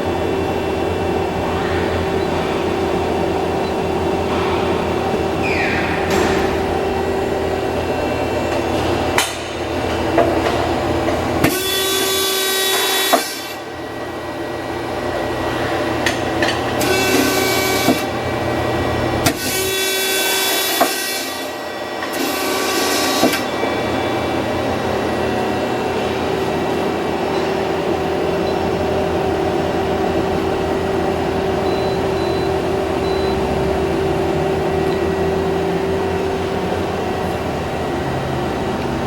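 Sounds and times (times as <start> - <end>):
machine hum and whine: 0.0 - 39.0.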